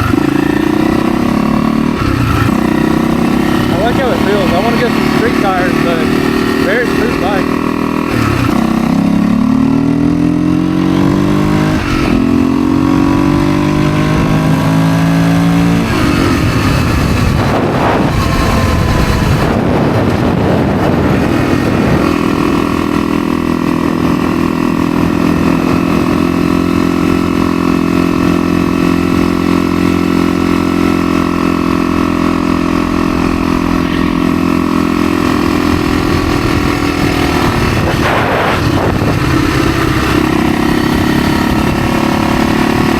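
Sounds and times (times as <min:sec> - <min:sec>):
dirt bike engine shifting gears: 0:00.0 - 0:42.9.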